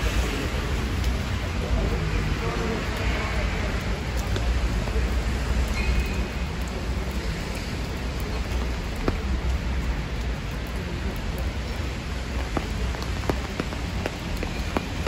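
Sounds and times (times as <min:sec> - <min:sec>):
rain on a wet street: 0:00.0 - 0:15.0.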